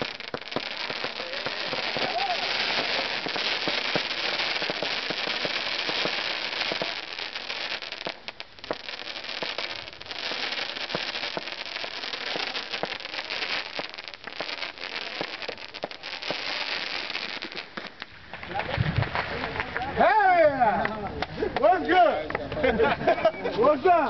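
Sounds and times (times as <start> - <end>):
fireworks crackling and popping: 0.0 - 20.2.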